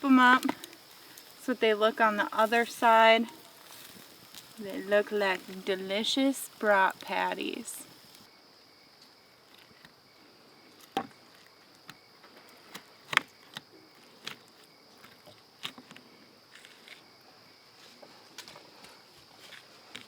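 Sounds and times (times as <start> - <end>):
high insect chirring: 0.0 - 20.0.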